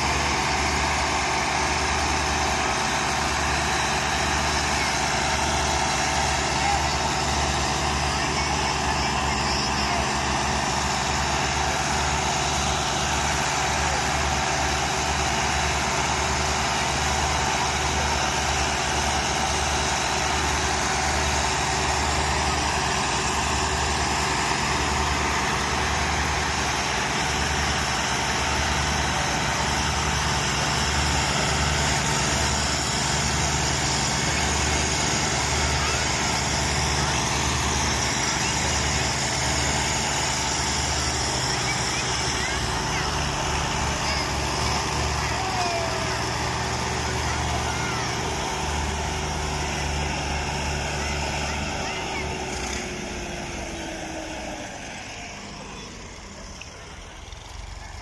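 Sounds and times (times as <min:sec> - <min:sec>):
diesel tractors running under load: 0:00.0 - 0:58.0.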